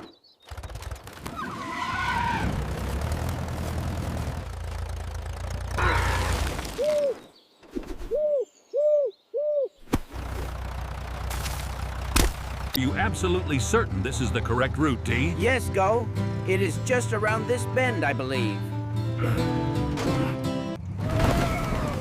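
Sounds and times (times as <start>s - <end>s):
tractor engine rumbling: 0.5s - 7.1s, 10.0s - 22.0s.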